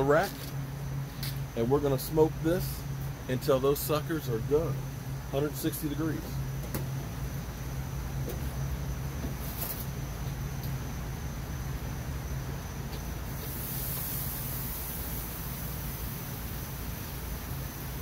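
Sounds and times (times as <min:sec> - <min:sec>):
insects hissing in trees: 0:00.0 - 0:18.0
smoker burner humming: 0:00.0 - 0:18.0.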